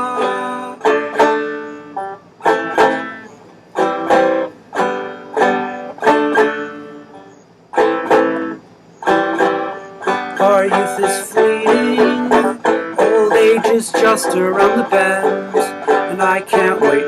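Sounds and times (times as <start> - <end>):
banjo strumming: 0.0 - 17.0.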